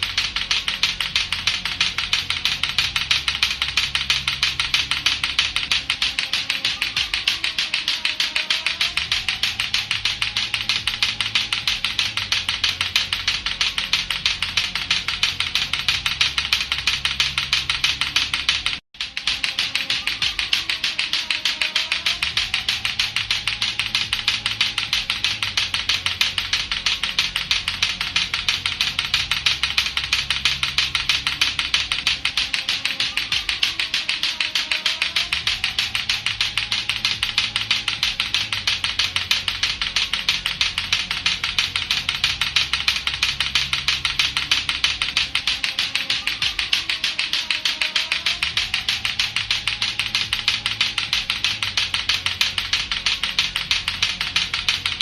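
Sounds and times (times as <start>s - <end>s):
clacker balls knocking together: 0.0s - 55.0s.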